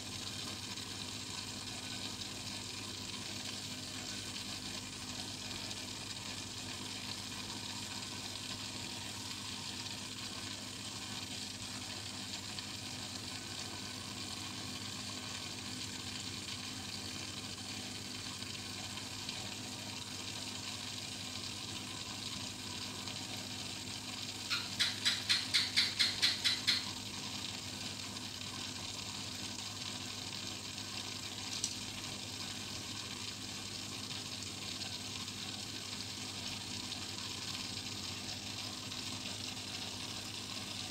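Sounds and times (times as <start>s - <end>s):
aquarium bubbles fizzing: 0.0s - 40.9s.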